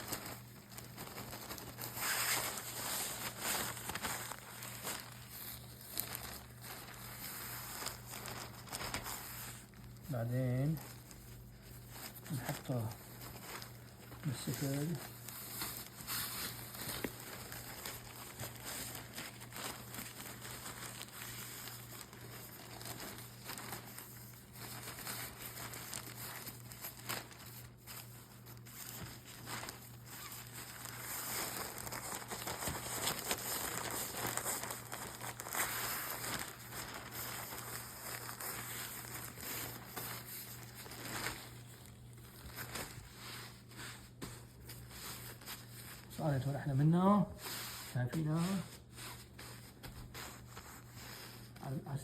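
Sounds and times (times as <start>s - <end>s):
plastic sheeting crinkling: 0.0s - 52.0s.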